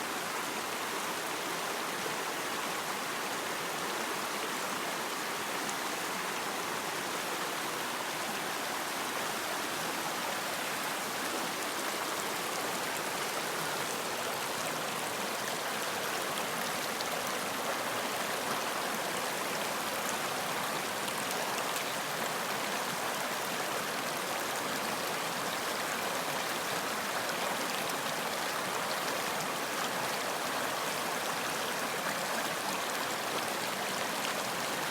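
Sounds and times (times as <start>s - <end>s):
stream water rushing and babbling: 0.0s - 34.9s.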